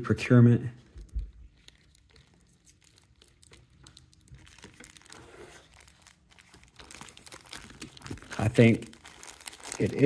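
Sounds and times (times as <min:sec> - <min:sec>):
packaging crinkling: 0:00.8 - 0:10.0.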